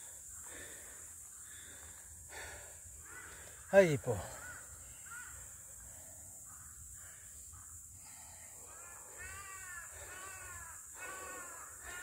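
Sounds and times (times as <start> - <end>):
crow cawing: 0.3 - 7.8, 8.6 - 12.0.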